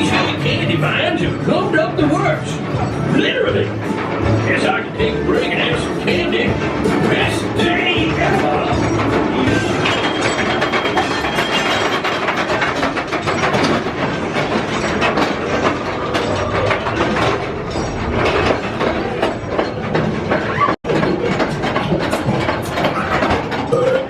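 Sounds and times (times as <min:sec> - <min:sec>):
roller coaster rattling on track: 0:00.0 - 0:24.0.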